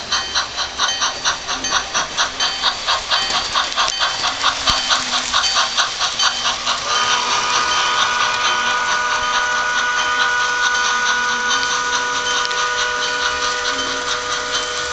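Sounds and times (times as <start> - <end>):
model steam locomotive chuffing: 0.0 - 14.9
steady held tones: 0.0 - 14.9.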